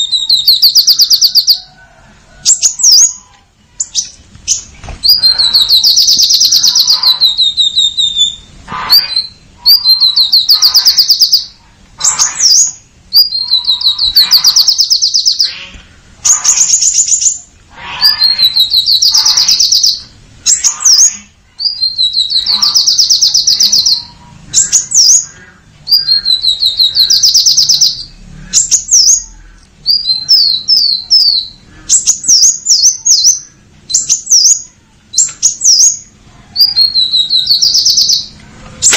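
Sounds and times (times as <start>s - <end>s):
bird singing high trills: 0.0s - 1.8s, 2.4s - 38.9s.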